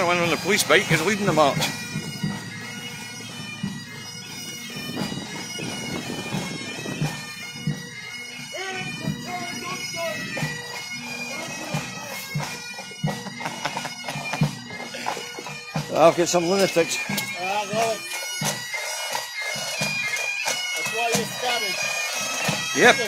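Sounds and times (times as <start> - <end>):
bagpipes playing: 0.0 - 23.0.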